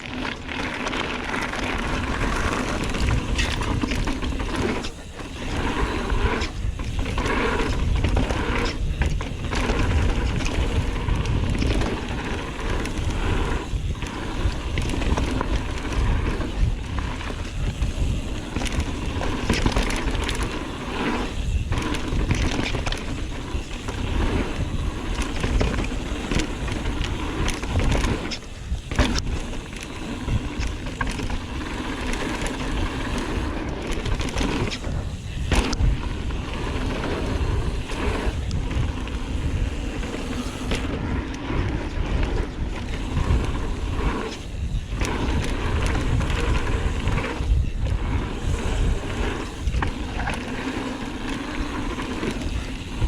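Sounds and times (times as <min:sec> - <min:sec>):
wind buffeting on microphone: 0:01.5 - 0:53.0.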